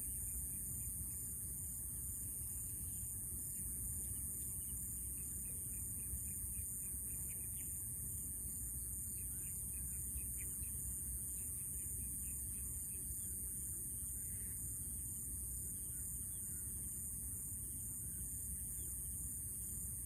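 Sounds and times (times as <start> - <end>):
steady high-pitched hiss: 0.0 - 20.0.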